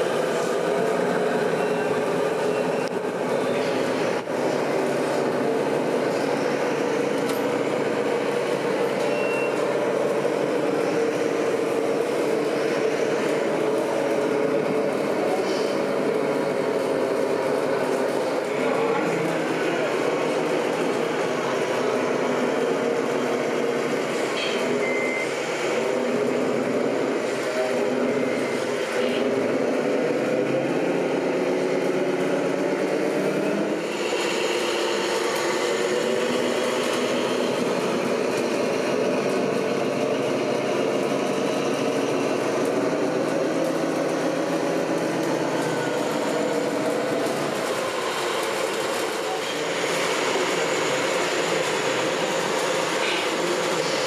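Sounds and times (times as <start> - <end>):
rc truck engine drones: 0.0 - 54.0.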